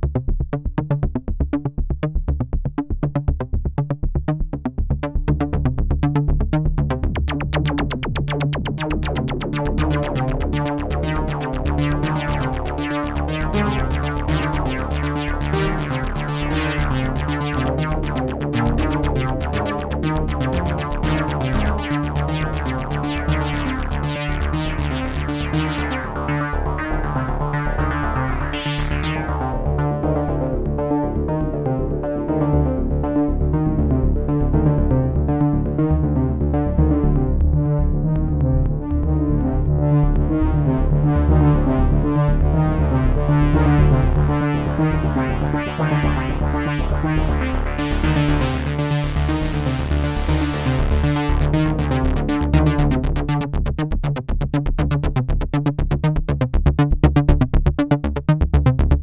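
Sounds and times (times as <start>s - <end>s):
bass-heavy synthesizer: 0.0s - 59.0s.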